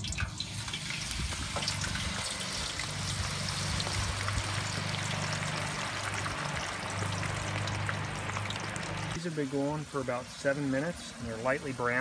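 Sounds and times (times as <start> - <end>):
fries sizzling in oil: 0.0 - 12.0.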